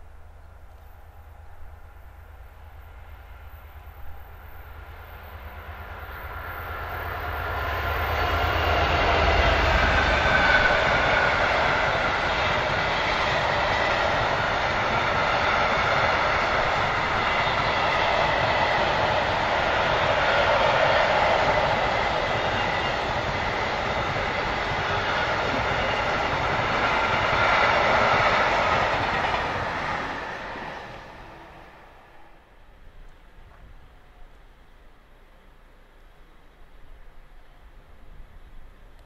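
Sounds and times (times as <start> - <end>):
diesel locomotive engine rumbling: 0.0 - 39.0
train wheels on rails: 0.2 - 33.9.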